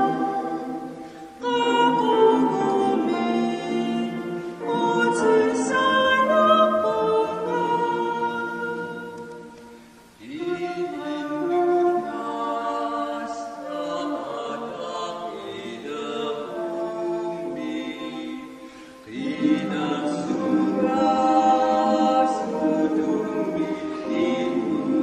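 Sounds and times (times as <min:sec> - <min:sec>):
choir singing slow song: 0:00.0 - 0:25.0.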